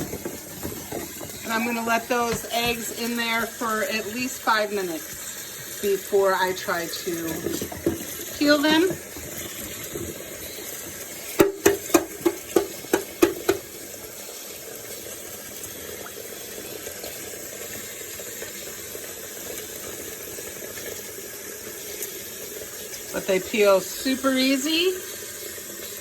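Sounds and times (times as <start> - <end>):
tap water running into sink: 0.0 - 26.0.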